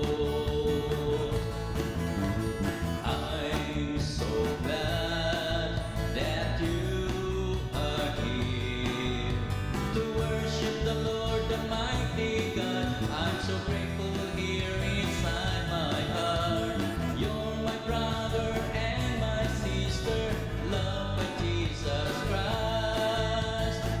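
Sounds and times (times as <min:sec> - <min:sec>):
country guitar music: 0:00.0 - 0:24.0
person singing: 0:00.0 - 0:24.0.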